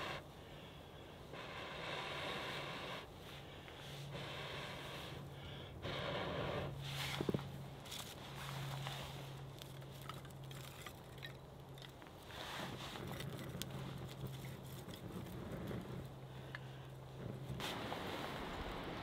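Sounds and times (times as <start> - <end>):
kindling fire crackling: 0.0 - 19.0.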